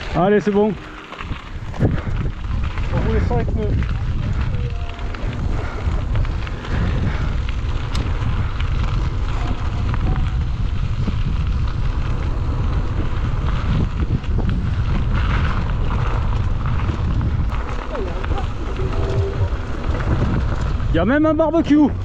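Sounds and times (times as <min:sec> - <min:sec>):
bike clicks and knocks: 0:00.0 - 0:20.9
tyres rumbling on trail: 0:00.0 - 0:22.0
wind buffeting microphone: 0:00.0 - 0:22.0.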